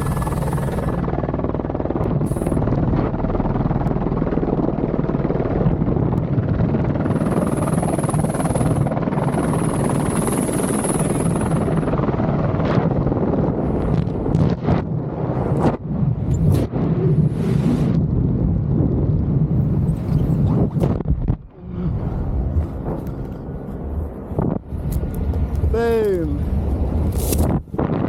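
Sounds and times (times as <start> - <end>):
helicopter rotor and engine: 0.0 - 17.4, 22.2 - 28.0.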